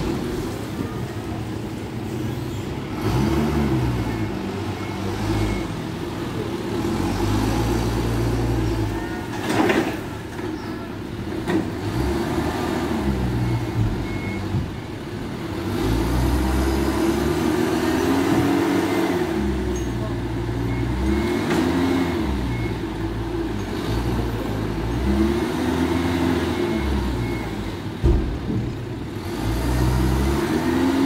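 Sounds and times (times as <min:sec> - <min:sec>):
forklift engine revving: 0:02.3 - 0:09.0, 0:11.1 - 0:14.5, 0:15.1 - 0:28.0, 0:29.0 - 0:31.0.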